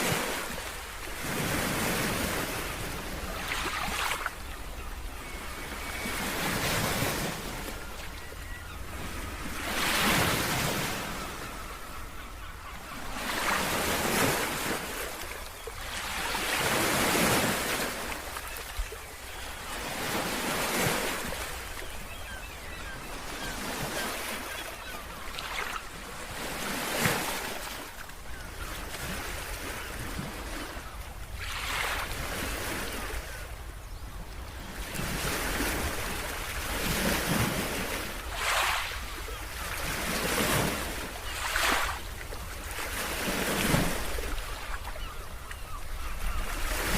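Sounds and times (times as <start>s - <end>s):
waves breaking on shore: 0.0s - 11.8s, 12.9s - 33.6s, 34.6s - 46.9s.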